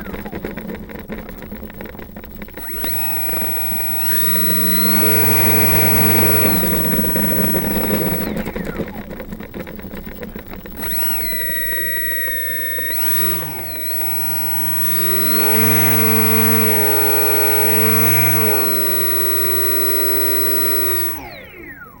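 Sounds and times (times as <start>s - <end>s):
electric motor whining: 2.5s - 9.0s, 10.7s - 22.0s.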